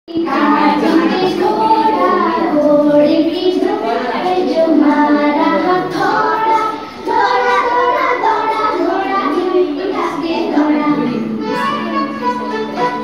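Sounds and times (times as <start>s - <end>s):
music with high singing voice: 0.1s - 13.0s.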